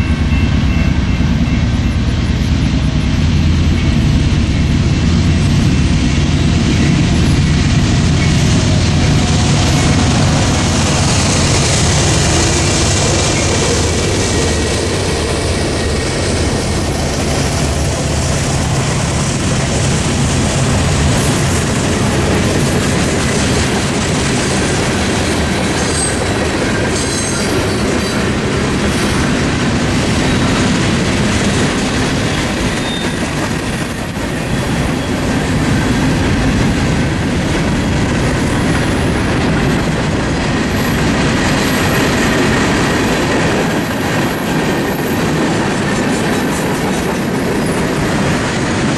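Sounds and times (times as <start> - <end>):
freight train wheels rumbling: 0.0 - 48.9
high wheel squeal: 0.0 - 48.9.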